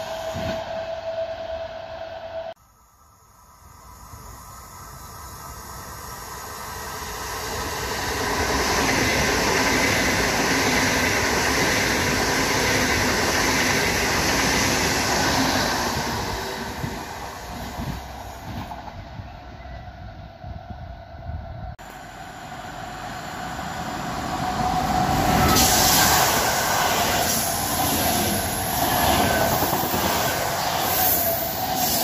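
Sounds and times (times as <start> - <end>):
high-speed train passing: 0.0 - 32.0.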